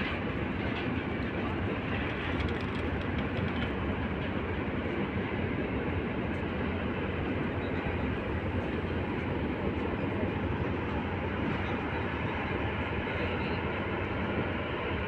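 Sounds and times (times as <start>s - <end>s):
steady mechanical rumble: 0.0s - 15.0s.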